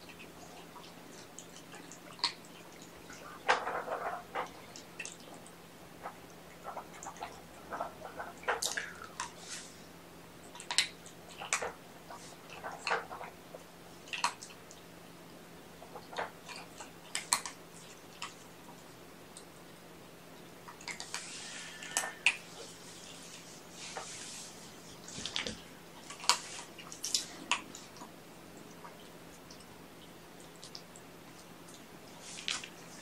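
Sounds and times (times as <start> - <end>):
kitten chewing food: 0.0 - 33.0.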